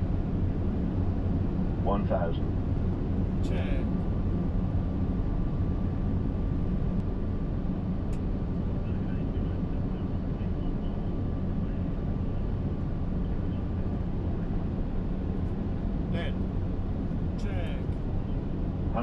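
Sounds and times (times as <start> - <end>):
airflow and engine rumble: 0.0 - 19.0.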